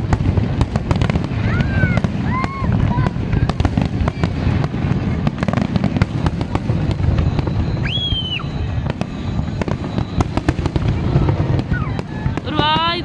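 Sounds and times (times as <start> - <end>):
fireworks booming and cracking: 0.0 - 13.0
high firework whistle: 0.0 - 13.0.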